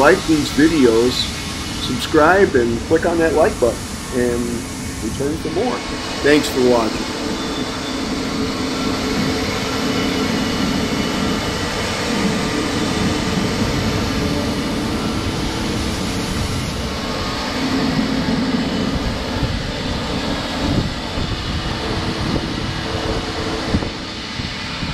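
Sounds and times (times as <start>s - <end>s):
grain dryer machinery droning: 0.0s - 24.9s.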